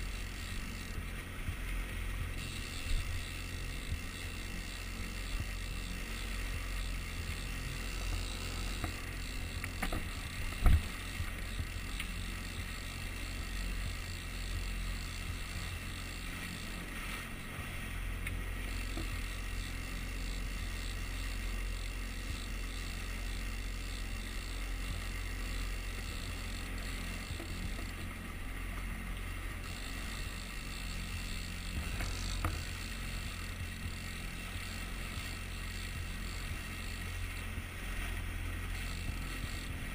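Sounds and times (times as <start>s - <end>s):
outboard motor rumbling: 0.0s - 39.9s.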